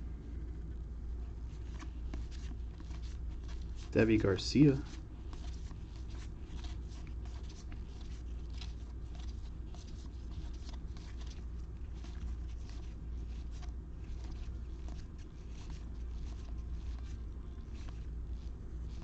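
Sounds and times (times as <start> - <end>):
steady low hum: 0.0 - 19.0
cards flicking and rustling: 1.5 - 19.0.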